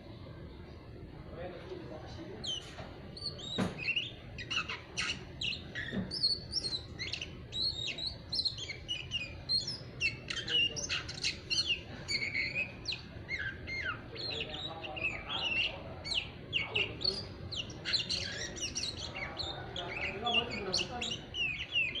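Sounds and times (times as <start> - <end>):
bird chirps and whistles: 2.4 - 22.0.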